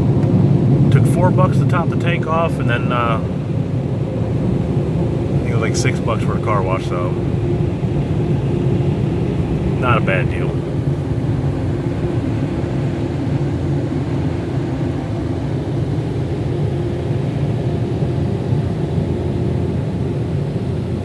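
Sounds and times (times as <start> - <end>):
drying blowers rumbling: 0.0 - 21.0.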